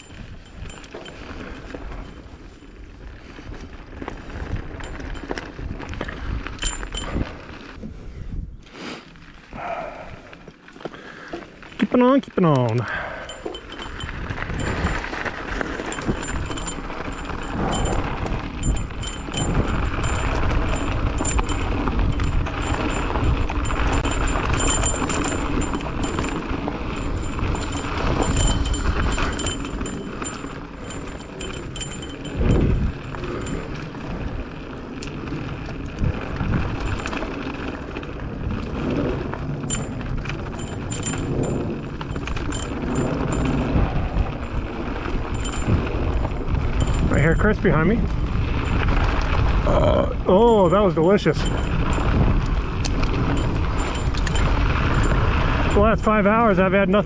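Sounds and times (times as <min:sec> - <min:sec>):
bike clicks and rattles: 0:00.0 - 0:08.1, 0:10.3 - 0:57.0
bike tyre and wind rush: 0:00.0 - 0:57.0.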